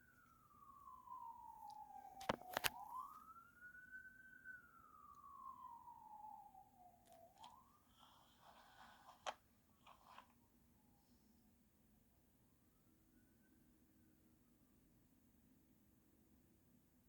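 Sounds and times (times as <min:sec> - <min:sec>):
faint wailing siren: 0:00.0 - 0:15.7.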